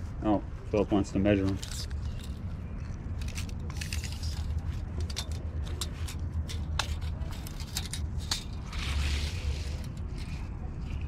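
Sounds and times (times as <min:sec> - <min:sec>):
steady low rumble: 0:00.0 - 0:11.0
tape measure clicks and scrapes: 0:01.4 - 0:11.0.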